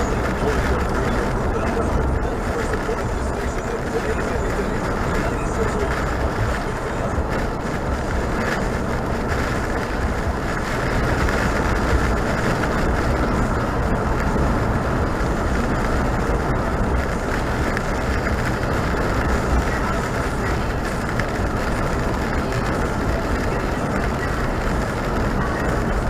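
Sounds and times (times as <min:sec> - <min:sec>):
vehicle driving rumble: 0:00.0 - 0:26.0.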